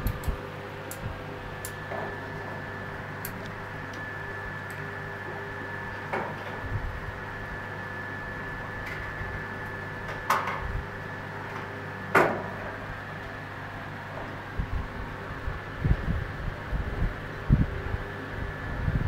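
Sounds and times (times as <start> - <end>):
aquarium equipment hum: 0.0 - 19.0
thin high whine: 0.6 - 16.4.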